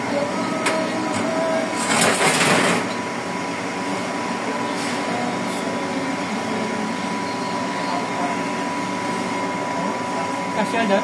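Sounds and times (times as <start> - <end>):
industrial machinery humming: 0.0 - 11.0.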